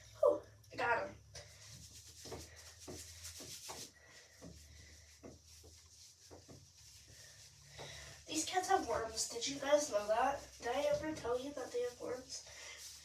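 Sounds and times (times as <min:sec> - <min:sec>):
hands scrubbing wet cat fur: 0:00.5 - 0:13.0.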